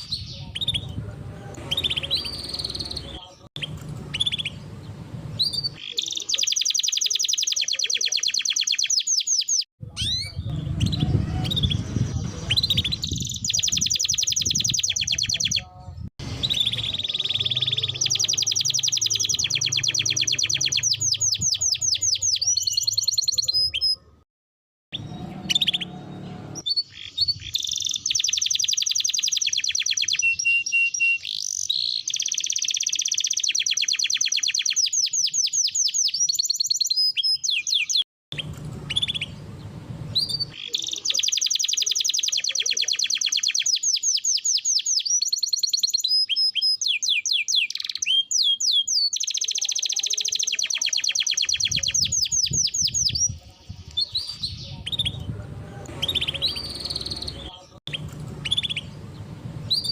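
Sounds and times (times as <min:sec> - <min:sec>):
canary singing trills: 0:00.0 - 0:01.0, 0:01.6 - 0:24.2, 0:24.9 - 0:59.9.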